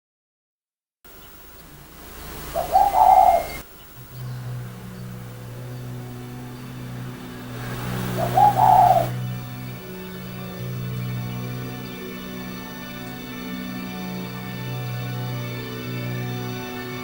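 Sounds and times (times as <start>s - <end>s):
low steady hum: 1.1s - 17.0s
bird calling: 2.3s - 17.0s.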